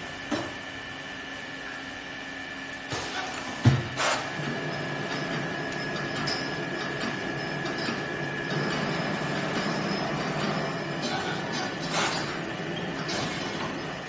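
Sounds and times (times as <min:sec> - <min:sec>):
machine running hum: 0:00.0 - 0:14.0.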